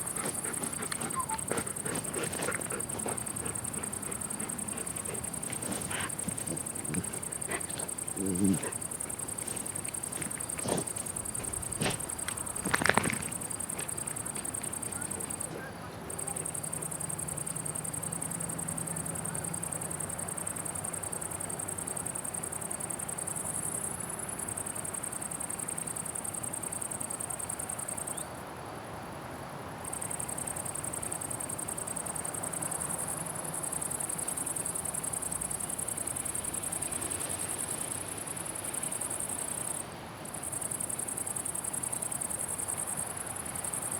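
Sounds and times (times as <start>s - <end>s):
insects chirring: 0.0s - 28.3s, 29.8s - 43.9s.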